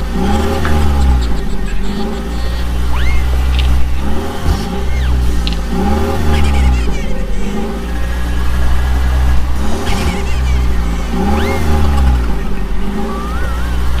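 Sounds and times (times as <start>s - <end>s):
steady low drone: 0.0s - 14.0s
vehicle engine revving: 0.0s - 14.0s.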